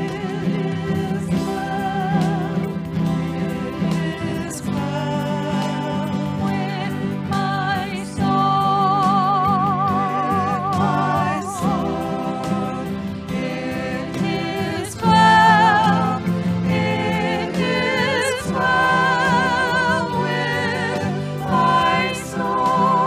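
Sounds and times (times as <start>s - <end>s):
instrumental accompaniment: 0.0s - 23.0s
person singing with vibrato: 0.0s - 23.0s.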